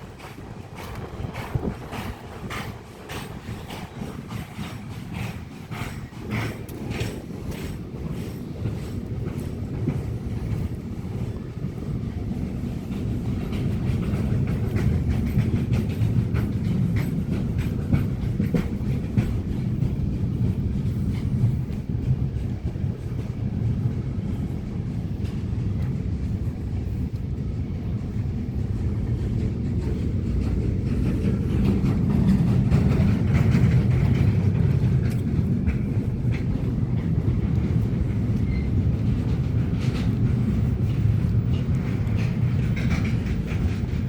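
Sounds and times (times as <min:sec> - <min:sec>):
train passing rumble: 0:00.0 - 0:44.0.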